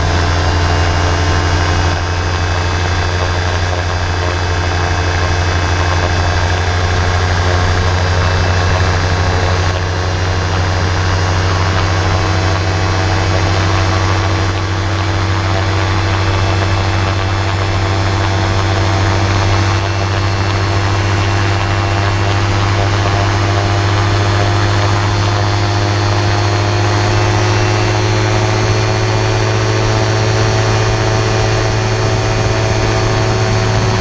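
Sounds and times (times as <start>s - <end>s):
gyrocopter engine and propeller drone: 0.0s - 34.0s.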